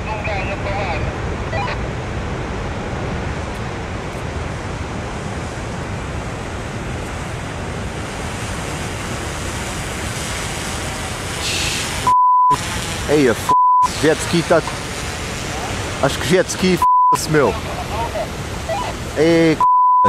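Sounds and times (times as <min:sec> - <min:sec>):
ocean surf: 0:00.0 - 0:19.7.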